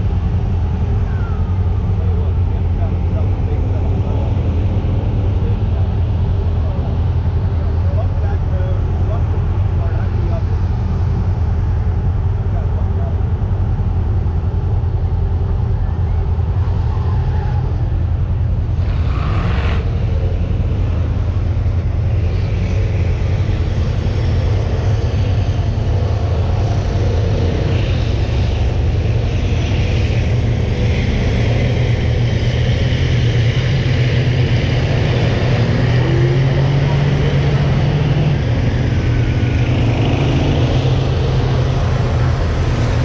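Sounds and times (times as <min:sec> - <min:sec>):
low engine rumble: 0:00.0 - 0:43.0
racing buses: 0:00.0 - 0:43.0.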